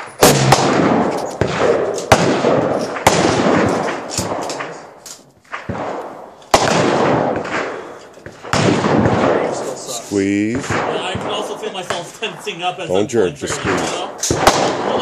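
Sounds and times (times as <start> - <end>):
rifle shots: 0.0 - 12.4, 13.4 - 15.0.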